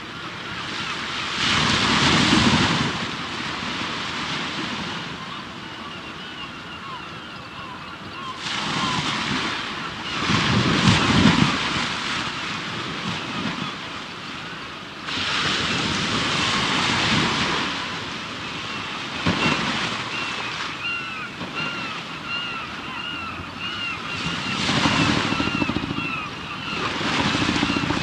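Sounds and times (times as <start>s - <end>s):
sea waves washing ashore: 0.0s - 28.0s.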